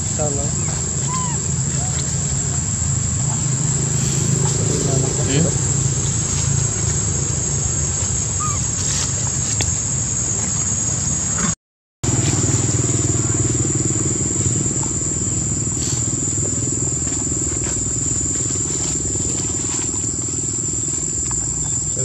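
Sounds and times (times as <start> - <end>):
low engine-like hum: 0.0 - 11.4, 12.1 - 22.0
insects droning: 0.0 - 22.0.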